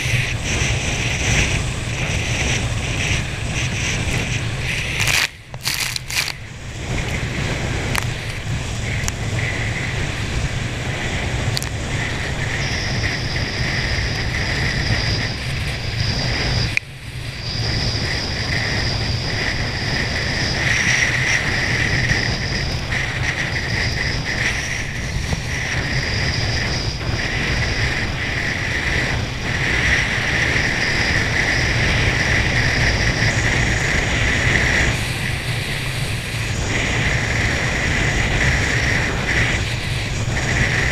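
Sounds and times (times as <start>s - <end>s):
high whine: 0.0s - 40.9s
low drone: 0.0s - 40.9s
wind at speed: 0.0s - 40.9s.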